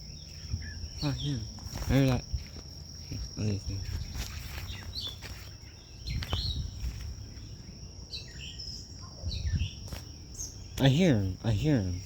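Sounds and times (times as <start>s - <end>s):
bird chirps: 0.0s - 12.0s
insects trilling: 0.0s - 12.0s.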